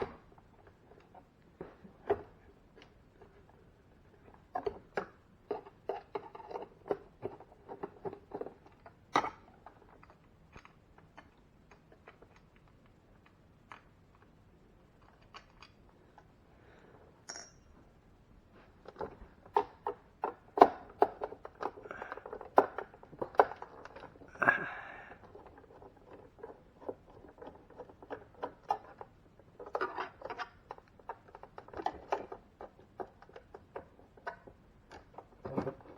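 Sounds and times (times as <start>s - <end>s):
clicks taps and rattles on plastic: 0.0s - 14.4s, 18.8s - 24.3s, 25.1s - 35.9s.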